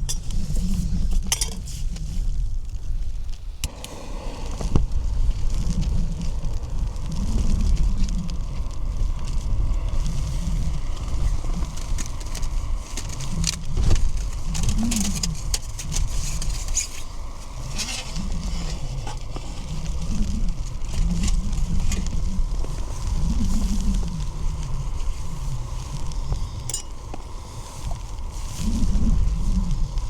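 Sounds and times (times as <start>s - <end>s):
gusty wind buffeting: 0.0s - 30.0s
rain ticking on tent fabric: 0.0s - 30.0s.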